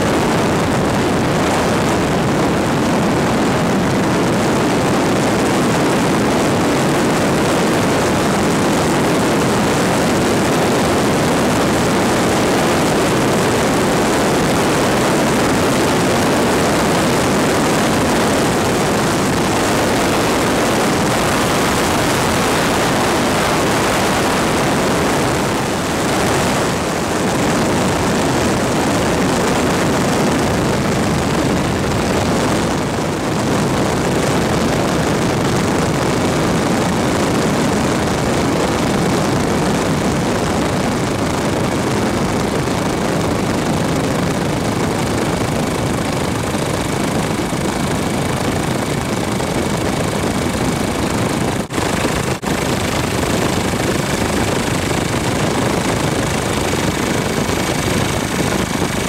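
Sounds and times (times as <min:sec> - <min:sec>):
steady engine drone: 0:00.0 - 0:59.0.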